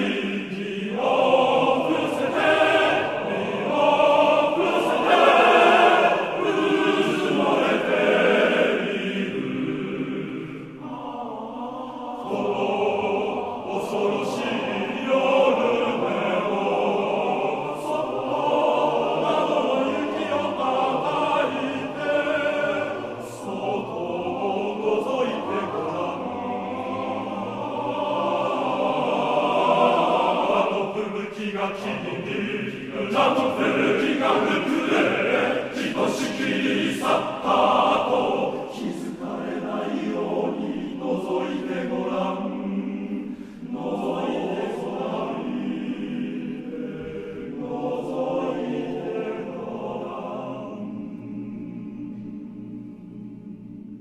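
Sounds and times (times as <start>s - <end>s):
male choir singing a cappella: 0.0s - 54.0s.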